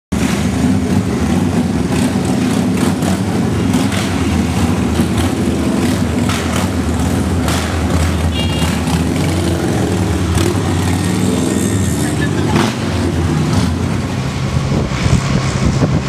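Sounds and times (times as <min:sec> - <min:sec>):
motorcycles: 0:00.1 - 0:16.0
vehicle engines running: 0:00.1 - 0:16.0.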